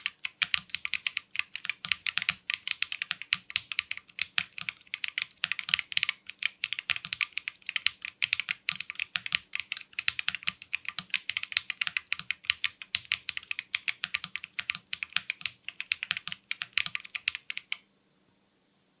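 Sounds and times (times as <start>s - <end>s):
mechanical keyboard typing: 0.0s - 17.8s.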